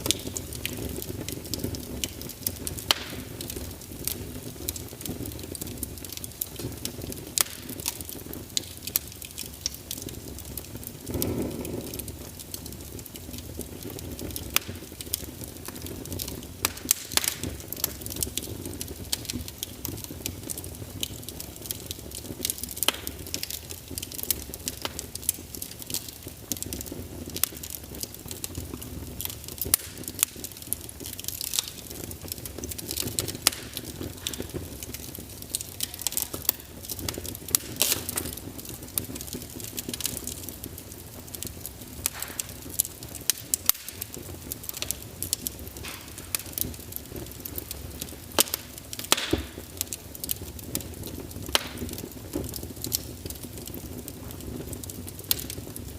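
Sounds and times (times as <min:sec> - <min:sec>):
fireplace fire crackling: 0:00.0 - 0:55.9.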